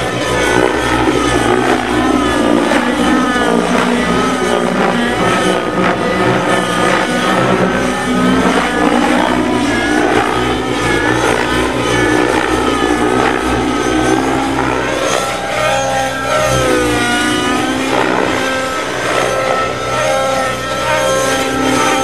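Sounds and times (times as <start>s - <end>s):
model helicopter engine: 0.0s - 22.0s.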